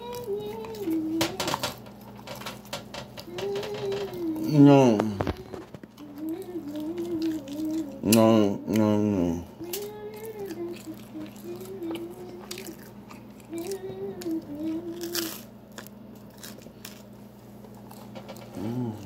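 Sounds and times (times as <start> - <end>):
person chewing: 0.0 - 19.0.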